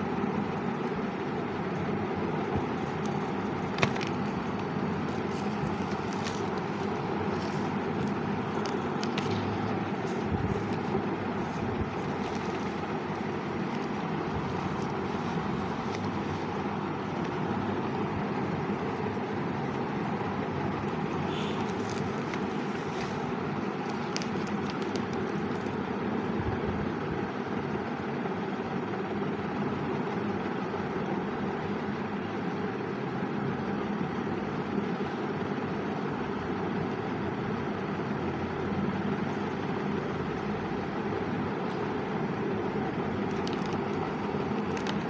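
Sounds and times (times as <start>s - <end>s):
steady background noise: 0.0s - 45.0s.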